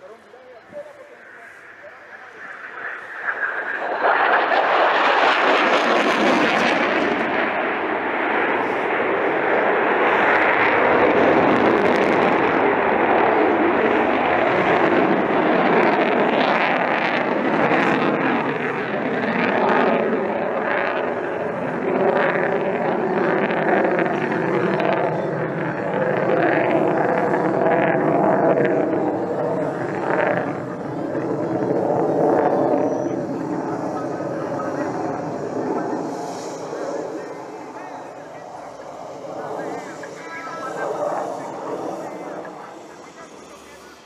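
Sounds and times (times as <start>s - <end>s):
jet roaring overhead: 0.0s - 44.0s.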